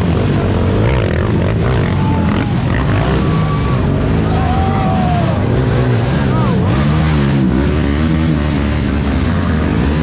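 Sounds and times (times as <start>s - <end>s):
atv engines revving: 0.0s - 10.0s.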